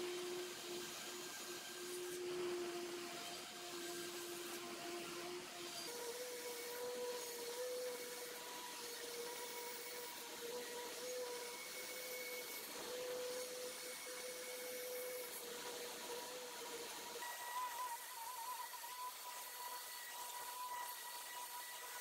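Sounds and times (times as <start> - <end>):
saw blade cutting wood: 0.0 - 22.0.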